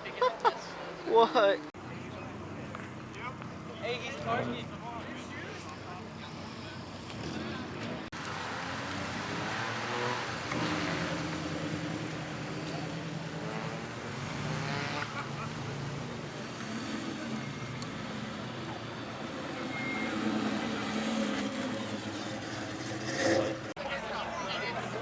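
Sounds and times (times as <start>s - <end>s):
cars driving past: 0.1s - 25.0s.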